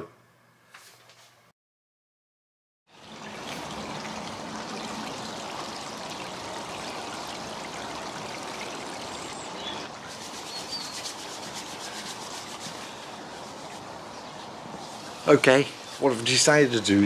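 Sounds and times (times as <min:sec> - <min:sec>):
water running over rocks: 0:02.9 - 0:17.0.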